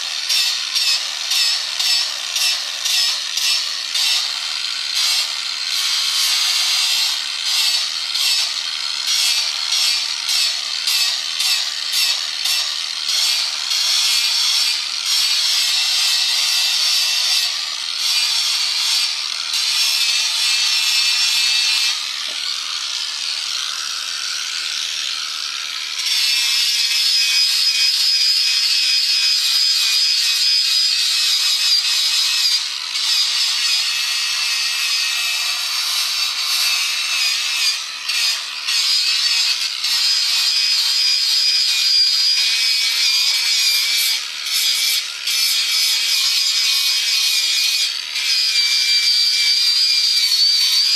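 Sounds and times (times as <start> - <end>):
high tool whine: 0.0 - 50.9
tool cutting wood: 0.0 - 50.9.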